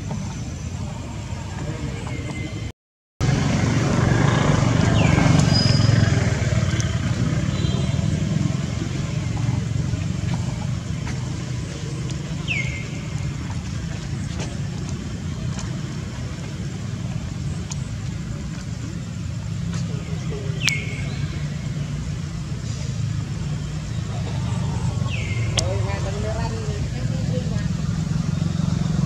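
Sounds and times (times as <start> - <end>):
rumble of motor vehicles: 0.0 - 29.0.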